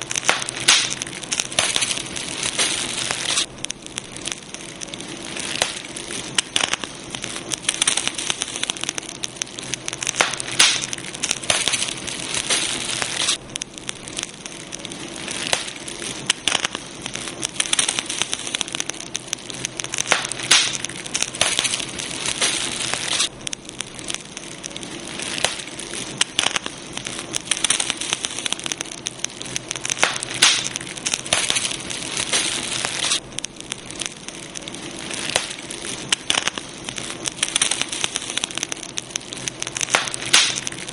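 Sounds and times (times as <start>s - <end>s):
burning wood popping and snapping: 0.0s - 40.9s
steady hiss: 0.0s - 40.9s.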